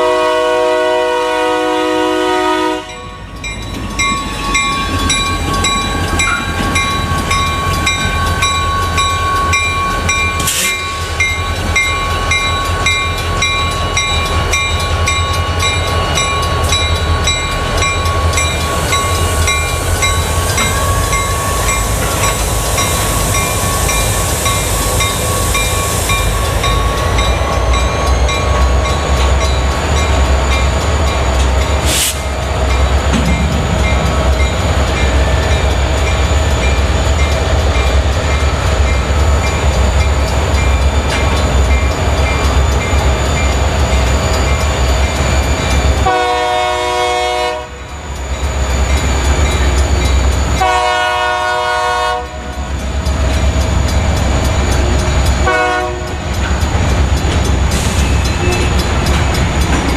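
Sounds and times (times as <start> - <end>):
locomotive engine rumble: 0.0 - 59.9
crossing bell dinging: 0.9 - 59.9.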